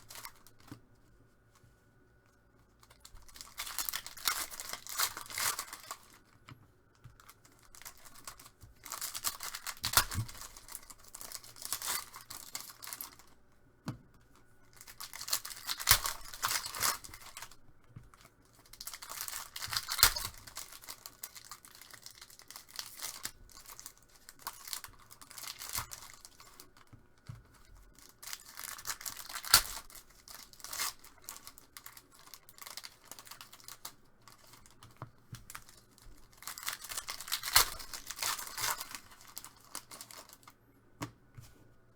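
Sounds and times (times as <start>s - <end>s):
wrappers tearing and crinkling: 0.0s - 0.8s, 2.8s - 6.4s, 7.2s - 13.4s, 14.6s - 40.6s.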